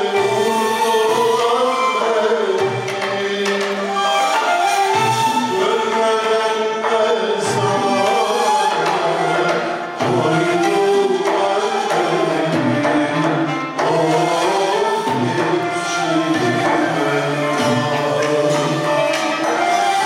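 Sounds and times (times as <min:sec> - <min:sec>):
men singing: 0:00.0 - 0:20.0
violin: 0:00.0 - 0:20.0.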